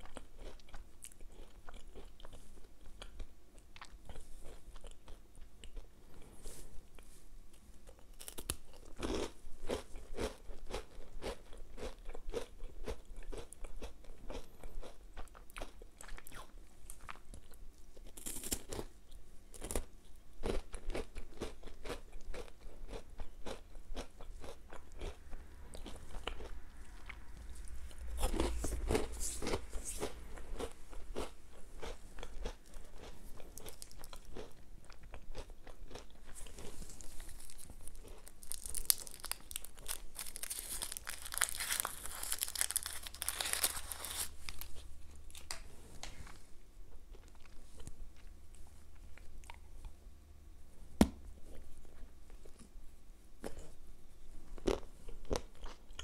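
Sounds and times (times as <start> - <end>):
crunchy wafer chewing: 0.0 - 45.6, 54.5 - 56.0.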